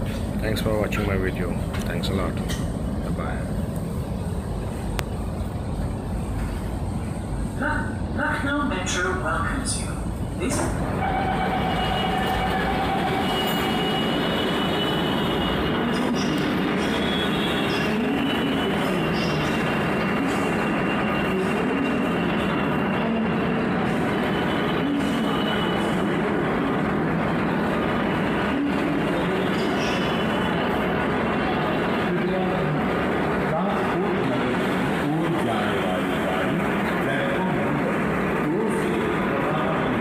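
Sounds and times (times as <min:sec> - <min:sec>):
metro train noise: 0:00.0 - 0:40.0.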